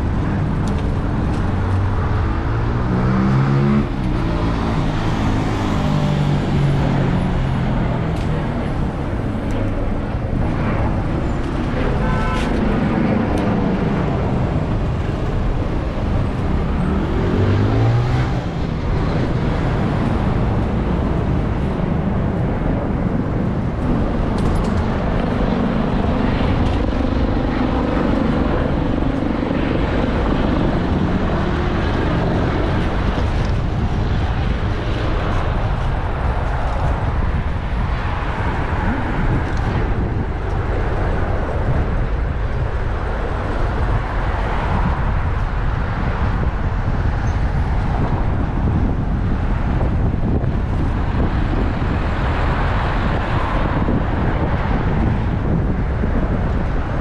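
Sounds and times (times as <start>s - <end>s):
road traffic noise: 0.0s - 57.0s
wind buffeting microphone: 0.0s - 57.0s.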